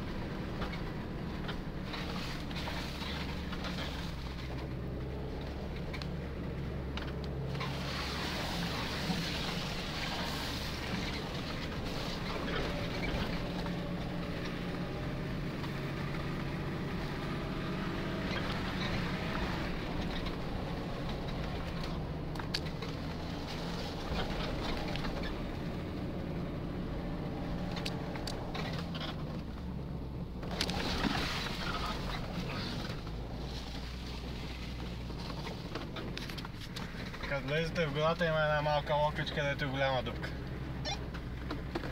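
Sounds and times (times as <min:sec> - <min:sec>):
car engine running: 0:00.0 - 0:41.9
rustle: 0:00.0 - 0:41.9.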